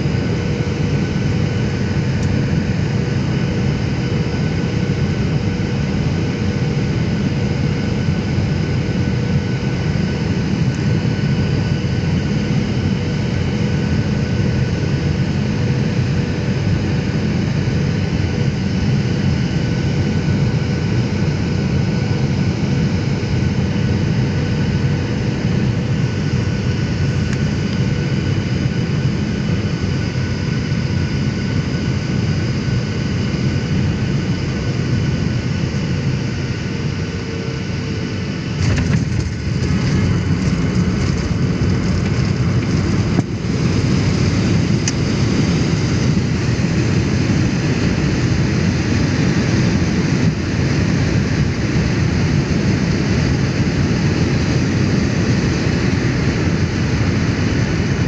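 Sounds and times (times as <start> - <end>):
faint steady whines: 0.0 - 58.0
jet engines and airflow rumble: 0.0 - 58.0.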